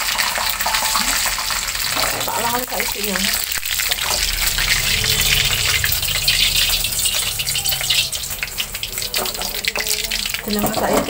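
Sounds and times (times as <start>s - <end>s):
gas burner flame rushing: 0.0s - 11.0s
hot oil sizzling and crackling: 0.0s - 11.0s.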